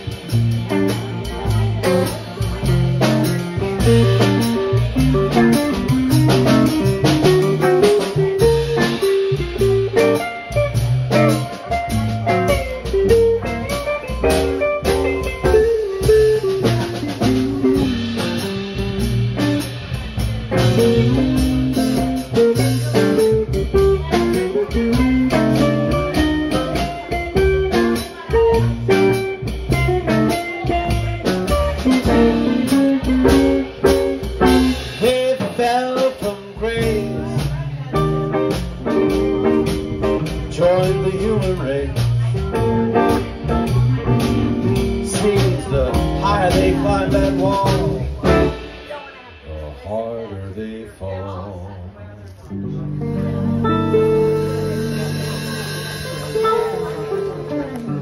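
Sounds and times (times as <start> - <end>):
electric guitar melody: 0.0 - 49.0, 52.5 - 58.0
live band playing: 0.0 - 51.4, 52.3 - 58.0.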